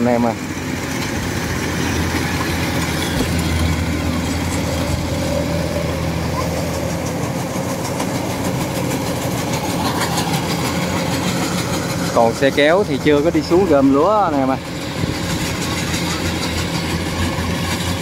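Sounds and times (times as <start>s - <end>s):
combine harvester diesel engine drone: 0.0s - 18.0s
cutting and threshing machinery: 0.0s - 18.0s.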